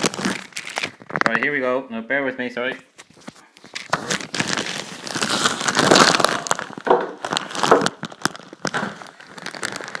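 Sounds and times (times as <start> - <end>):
packaging crinkling and rustling: 0.0 - 1.6, 3.0 - 10.0.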